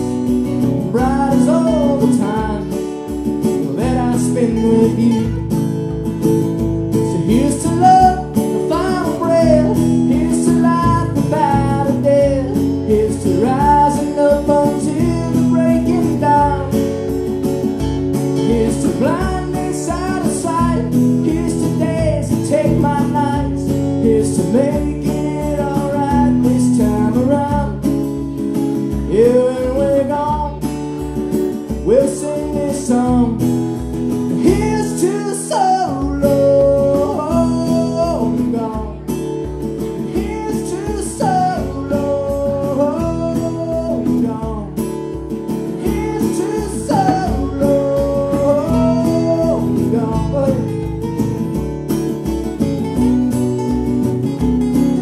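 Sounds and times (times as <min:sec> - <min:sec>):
man singing: 0:00.0 - 0:51.3
acoustic guitar strumming: 0:00.0 - 0:55.0.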